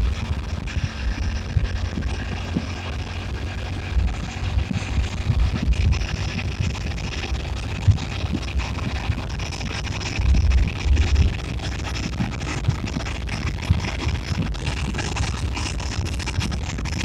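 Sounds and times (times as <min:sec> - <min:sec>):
motorcycle engine: 0:00.0 - 0:16.0
wind buffeting microphone: 0:00.0 - 0:17.0.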